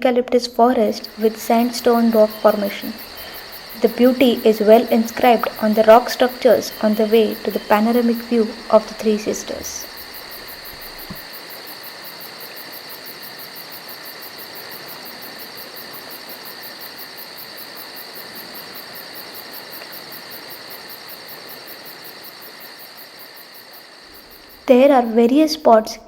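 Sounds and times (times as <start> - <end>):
insects buzzing: 0.0 - 26.0
insect trill: 0.3 - 26.0.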